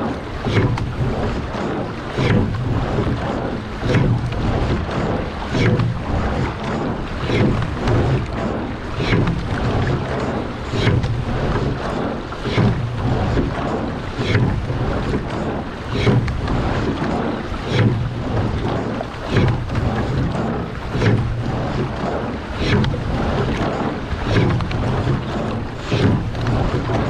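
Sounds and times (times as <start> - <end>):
oar splashing: 0.0 - 27.0
water rushing along a hull: 0.0 - 27.0
wind on microphone: 0.0 - 27.0.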